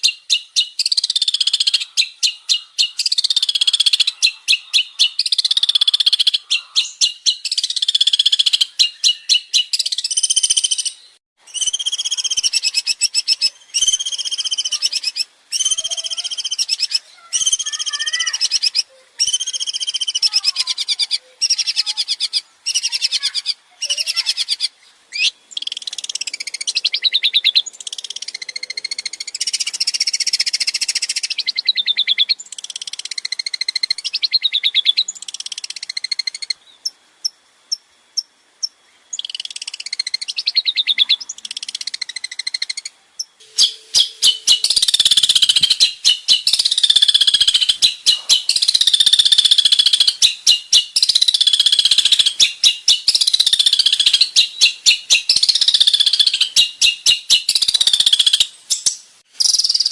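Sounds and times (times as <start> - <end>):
shrike singing: 0.0 - 36.6, 39.2 - 59.9.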